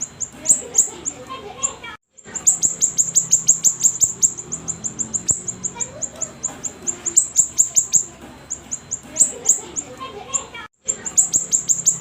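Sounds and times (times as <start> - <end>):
bird singing rapid sharp chirps: 0.0 - 12.0.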